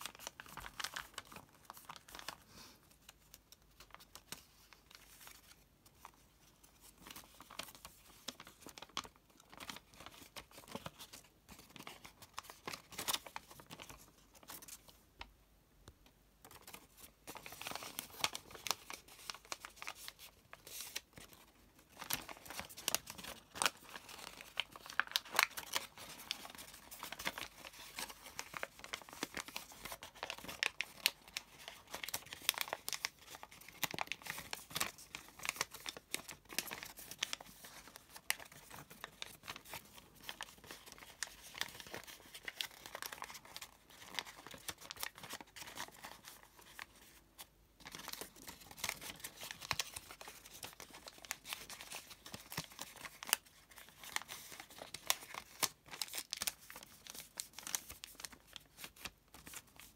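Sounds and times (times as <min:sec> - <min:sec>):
paper crinkling and rustling: 0:00.0 - 0:15.3, 0:16.4 - 0:59.9.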